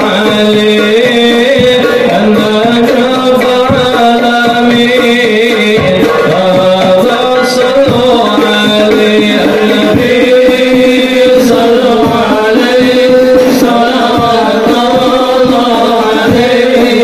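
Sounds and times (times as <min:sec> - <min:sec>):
frame drums in steady rhythm: 0:00.0 - 0:17.0
voices singing: 0:00.0 - 0:17.0.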